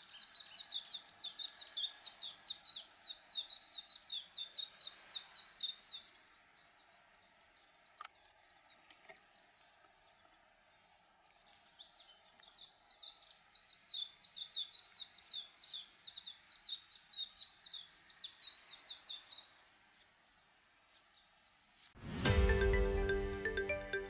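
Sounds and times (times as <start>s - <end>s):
bird chirping and twittering: 0.0s - 22.0s.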